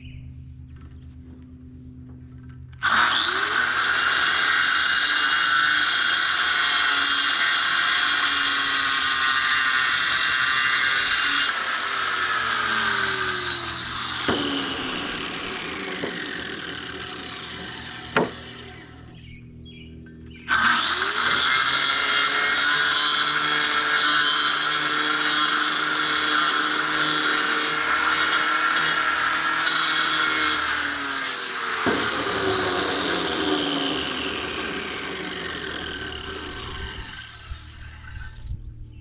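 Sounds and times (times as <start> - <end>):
diamond saw grinding stone: 2.9 - 18.9, 20.5 - 37.5.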